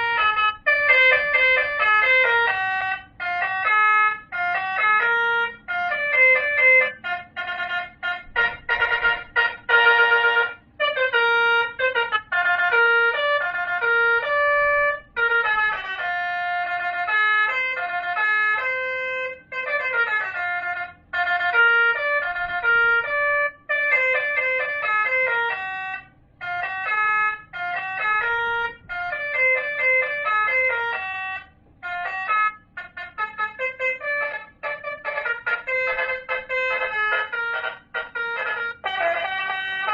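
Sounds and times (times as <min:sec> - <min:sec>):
electronic horn playing melodies: 0:00.0 - 0:39.9.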